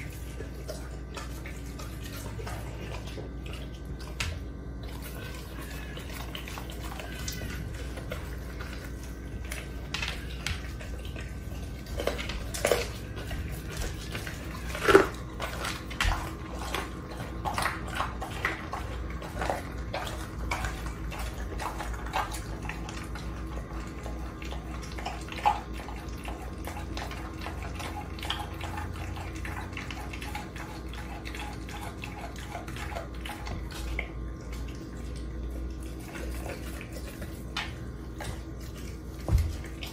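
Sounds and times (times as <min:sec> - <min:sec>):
dog chewing wet smacking: 0:00.0 - 0:39.9.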